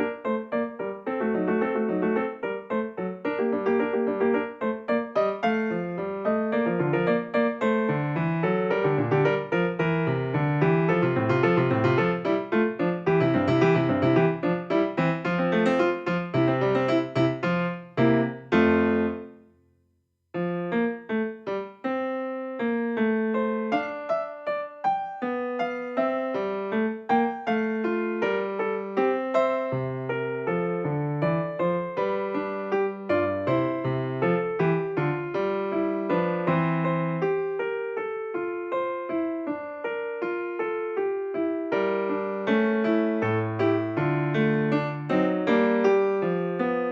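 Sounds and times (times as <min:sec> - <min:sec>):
piano music: 0:00.0 - 0:19.5, 0:20.4 - 0:46.9.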